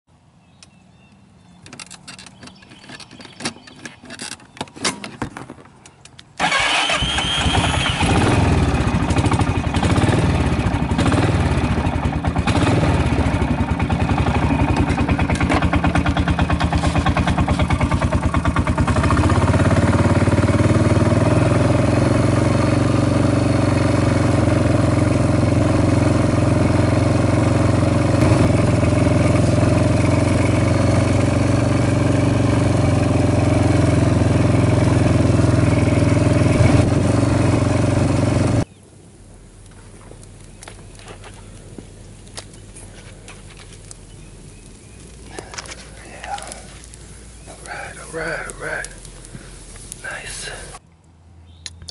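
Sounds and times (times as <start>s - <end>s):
atv engine running: 6.4s - 50.8s.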